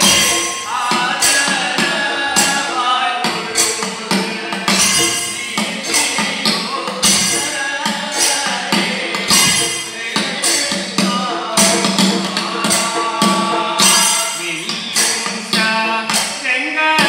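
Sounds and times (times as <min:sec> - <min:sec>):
drum beats: 0:00.0 - 0:17.0
jingling percussion: 0:00.0 - 0:17.0
men singing a chanting song: 0:00.0 - 0:17.0.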